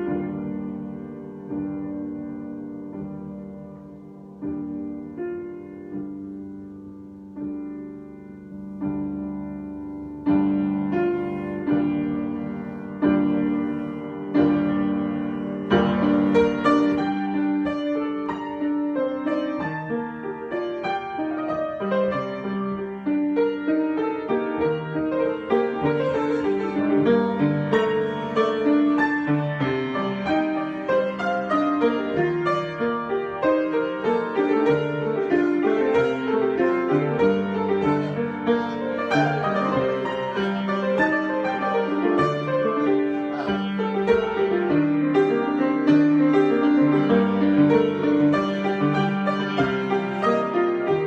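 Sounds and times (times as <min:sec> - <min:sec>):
piano improvisation: 0:00.0 - 0:51.0.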